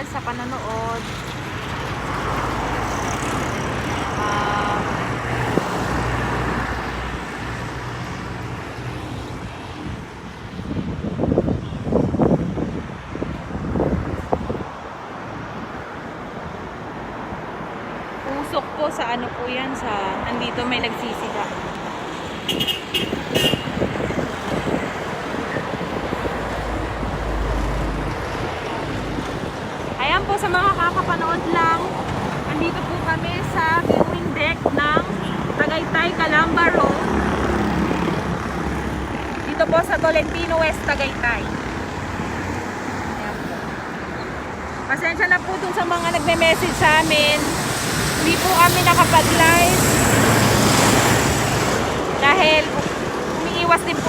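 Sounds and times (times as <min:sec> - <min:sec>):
traffic passing: 0:00.0 - 0:54.0
wind buffeting microphone: 0:00.0 - 0:54.0.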